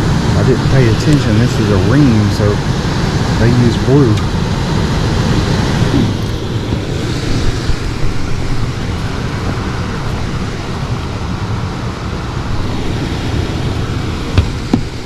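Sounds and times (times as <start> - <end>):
air handler blower running: 0.0 - 15.0.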